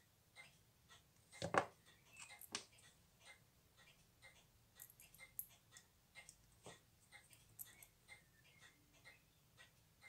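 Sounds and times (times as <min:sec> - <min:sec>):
faint regular ticking: 0:00.0 - 0:10.0.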